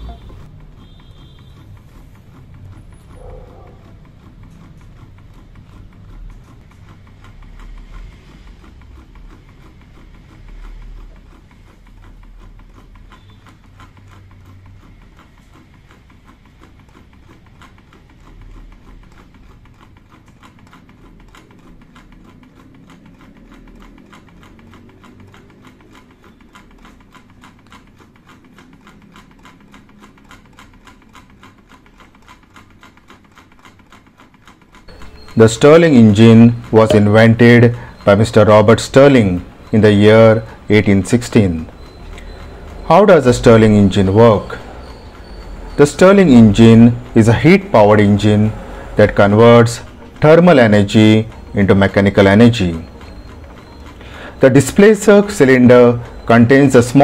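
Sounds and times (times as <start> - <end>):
small engine rhythmic clicking: 0.0 - 57.0.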